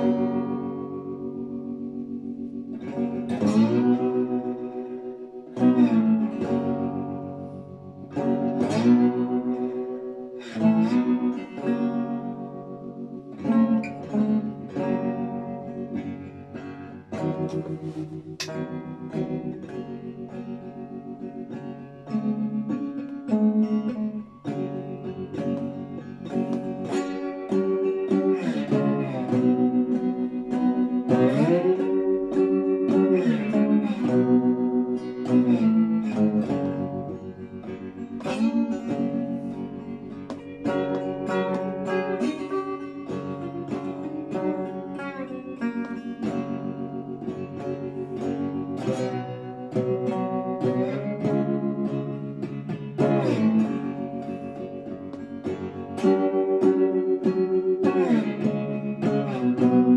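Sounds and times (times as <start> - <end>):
slide guitar: 0.0 - 59.9.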